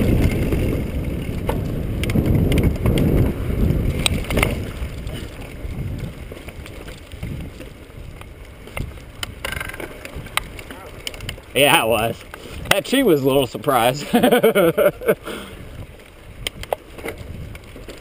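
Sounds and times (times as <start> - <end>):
bike rattles and knocks: 0.0 - 12.9, 15.8 - 18.0
bike tyres rumbling over dirt: 0.0 - 18.0
wind buffeting microphone: 0.0 - 18.0.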